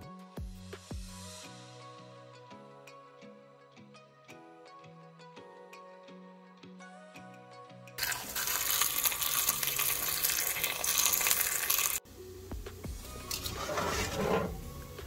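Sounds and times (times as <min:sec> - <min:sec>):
gentle background music: 0:00.0 - 0:15.0.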